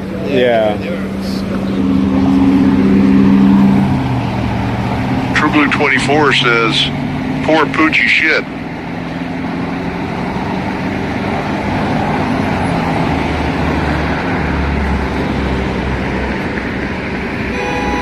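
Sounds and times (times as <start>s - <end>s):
freeway traffic road noise: 0.0s - 18.0s
low engine hum: 0.0s - 18.0s.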